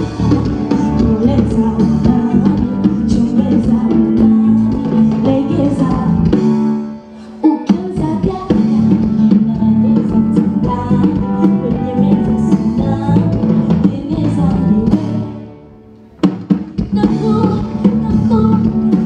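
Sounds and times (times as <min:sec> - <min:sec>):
band music with singing: 0:00.0 - 0:19.0.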